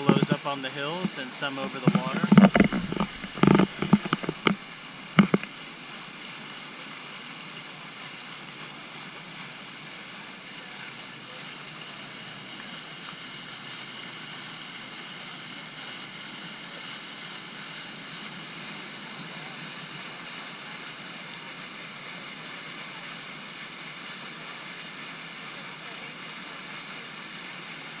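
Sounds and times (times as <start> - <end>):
water and wind rushing: 0.0 - 28.0.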